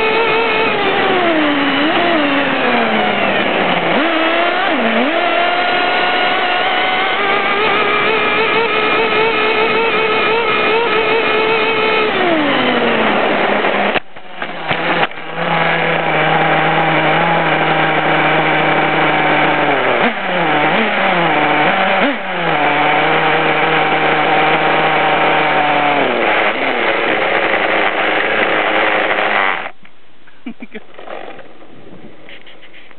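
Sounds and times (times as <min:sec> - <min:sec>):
small nitro engine revving: 0:00.0 - 0:29.8, 0:30.8 - 0:32.9.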